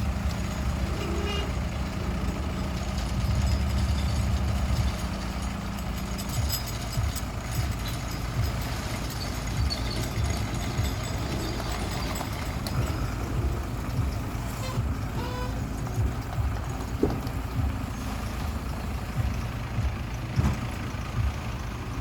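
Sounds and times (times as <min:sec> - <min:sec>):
vehicle engines rumbling: 0:00.0 - 0:22.0.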